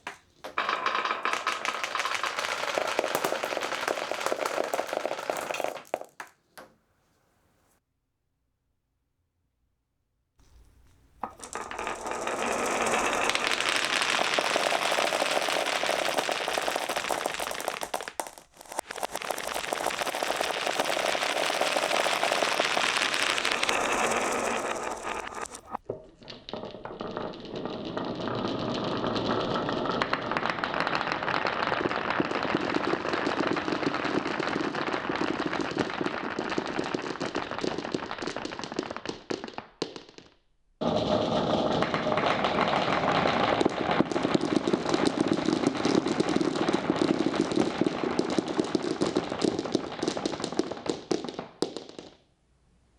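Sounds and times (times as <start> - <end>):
marbles clattering down wooden tracks: 0.0 - 6.7, 10.4 - 52.2.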